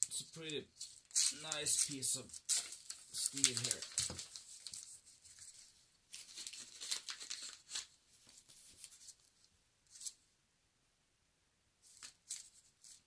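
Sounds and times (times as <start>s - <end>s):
paper wrapping rustling: 0.0s - 10.2s, 11.8s - 13.0s.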